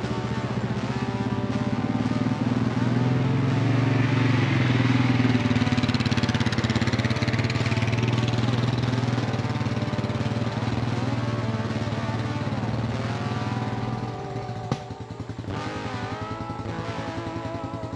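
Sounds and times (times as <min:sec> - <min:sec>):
atv engine running: 0:00.0 - 0:17.9.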